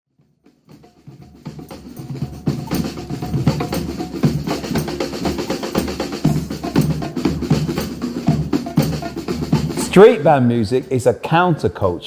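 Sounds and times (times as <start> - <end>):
snare and bass drums: 0.7 - 11.4.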